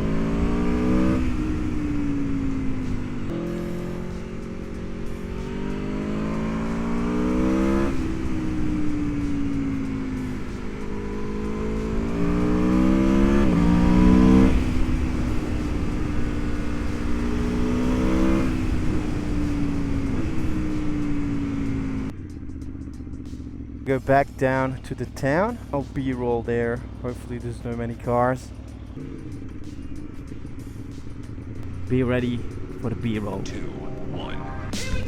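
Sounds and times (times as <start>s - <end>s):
motorcycle engine revving through upshifts: 0.0s - 26.2s, 26.8s - 35.0s.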